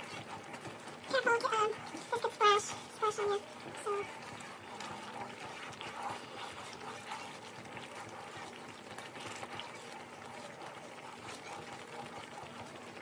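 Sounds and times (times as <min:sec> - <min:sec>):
thick sauce bubbling and popping: 0:00.0 - 0:13.0
wooden spoon stirring: 0:00.0 - 0:13.0.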